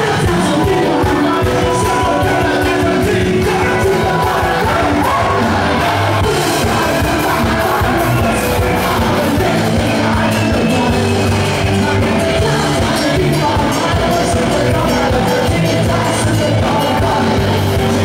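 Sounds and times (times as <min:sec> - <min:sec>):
live rock band playing: 0:00.0 - 0:18.0
man singing: 0:00.0 - 0:18.0.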